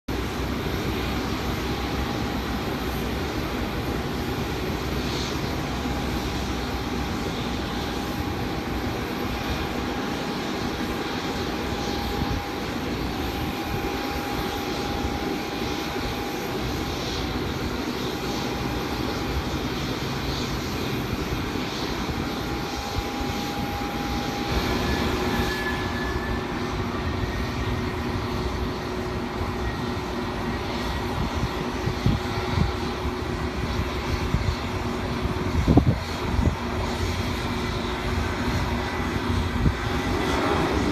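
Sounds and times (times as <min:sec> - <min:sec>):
higher engine whine: 0:00.1 - 0:40.9
jet engines whining: 0:00.1 - 0:40.9
wind buffeting microphone: 0:00.1 - 0:40.9.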